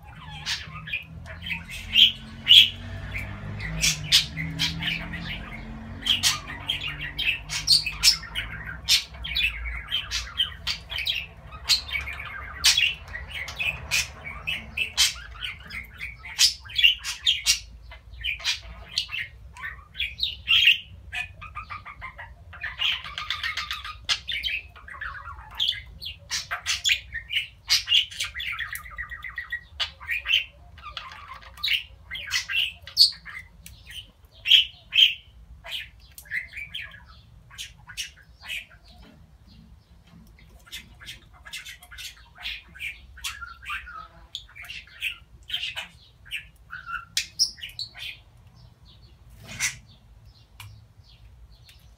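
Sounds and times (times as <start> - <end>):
budgerigar warbling chatter: 0.0 - 39.2, 40.5 - 48.3.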